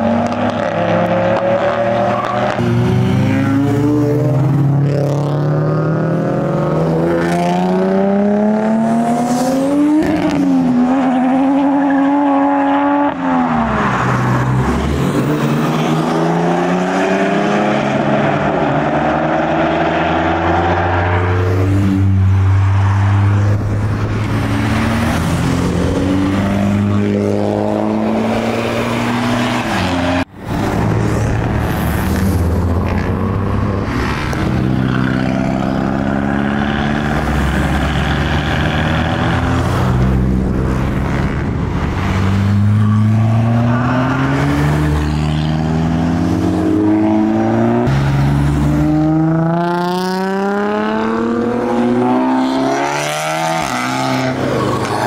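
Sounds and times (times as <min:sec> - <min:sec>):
car engines revving and accelerating: 0:00.0 - 0:55.0.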